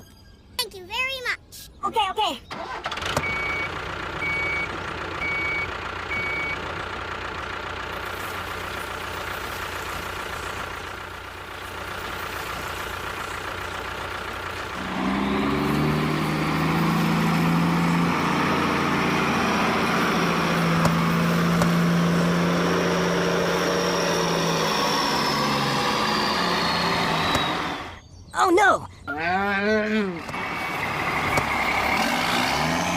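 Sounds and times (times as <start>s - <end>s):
loud engine running: 2.5s - 28.0s, 29.8s - 32.9s
vehicle engine running low: 2.5s - 28.2s, 29.5s - 32.9s.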